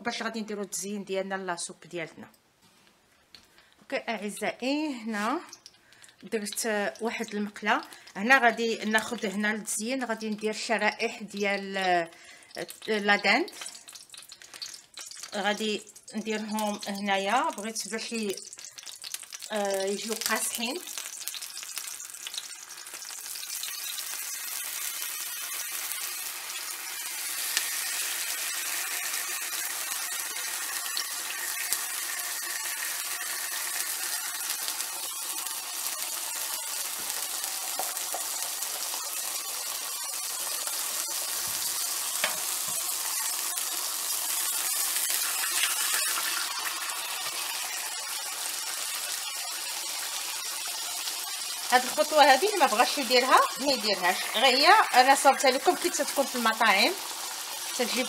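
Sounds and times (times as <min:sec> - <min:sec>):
bacon sizzling in a skillet: 0:04.2 - 0:58.0.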